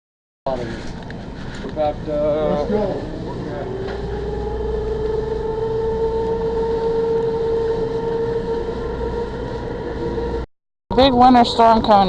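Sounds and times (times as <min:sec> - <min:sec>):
engine humming: 0:00.5 - 0:12.0
low rumble: 0:00.6 - 0:12.0.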